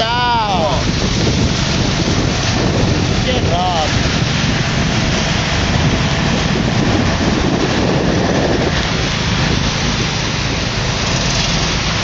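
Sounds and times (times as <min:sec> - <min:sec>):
car driving in heavy rain: 0:00.0 - 0:12.0.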